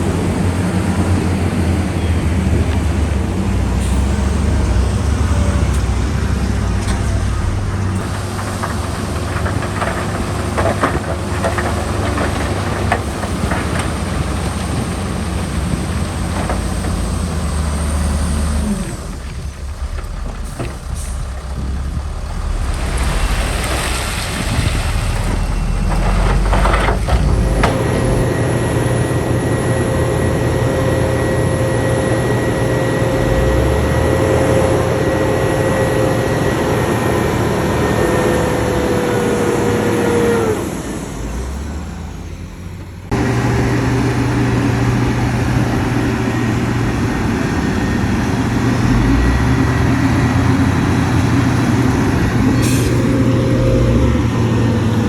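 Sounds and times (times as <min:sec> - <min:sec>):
heavy diesel machinery engine drone: 0:00.0 - 0:55.0.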